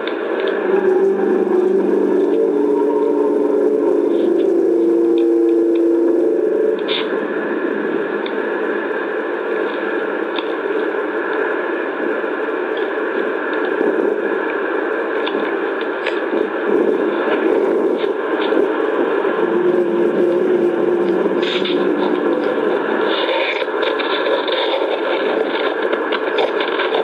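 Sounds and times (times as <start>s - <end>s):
low drone: 0.0s - 27.0s
static hiss: 0.0s - 27.0s.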